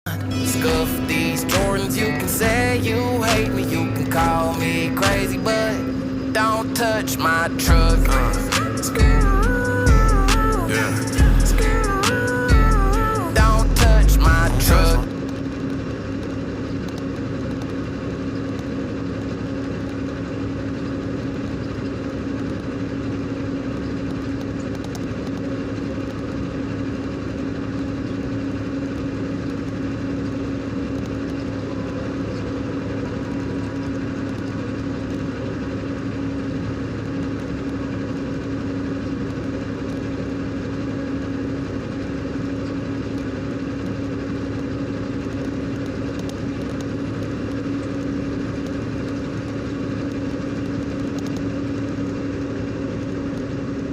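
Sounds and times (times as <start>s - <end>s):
truck engine running: 0.1s - 53.9s.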